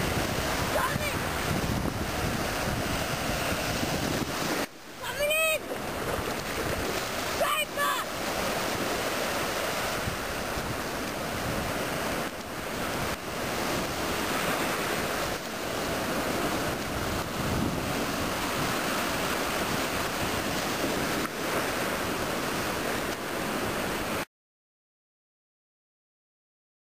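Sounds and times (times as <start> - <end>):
wind buffeting microphone: 0.0 - 24.2
ocean surf washing onto beach: 0.0 - 24.3.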